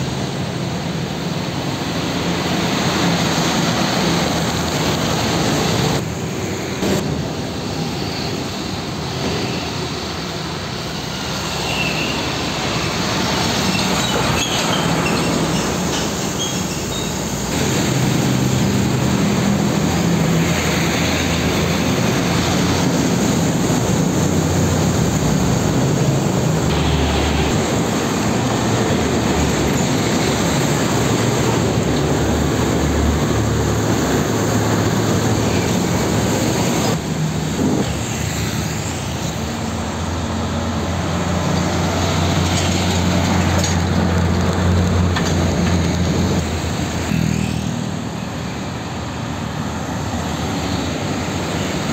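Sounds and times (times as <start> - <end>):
tyre hiss on wet road: 0.0 - 43.5
diesel truck engines droning: 0.0 - 51.9.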